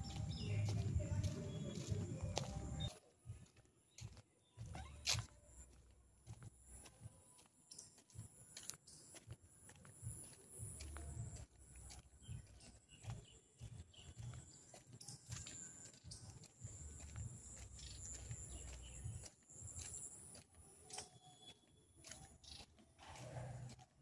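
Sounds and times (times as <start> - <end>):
footsteps on tile path: 0.0 - 24.0.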